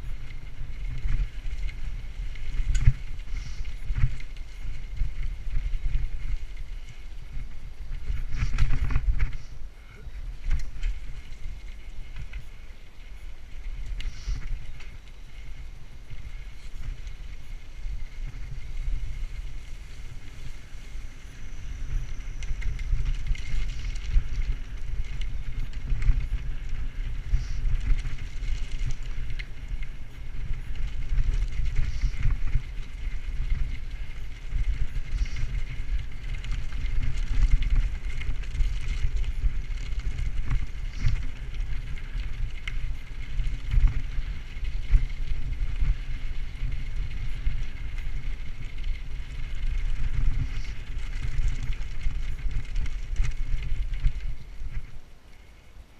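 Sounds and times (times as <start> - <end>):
bicycle tyres rumbling on gravel: 0.0 - 55.9
bike clicks and rattles: 0.0 - 55.9
wind on camera: 0.0 - 55.9.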